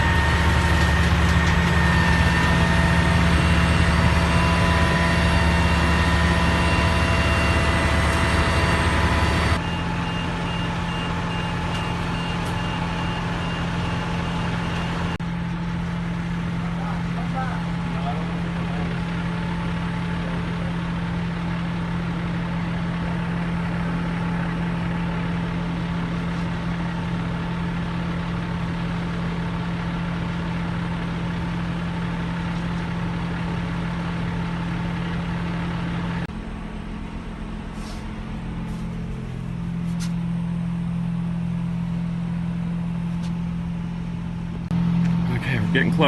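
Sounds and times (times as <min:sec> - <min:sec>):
heavy machine engine droning: 0:00.0 - 0:46.0.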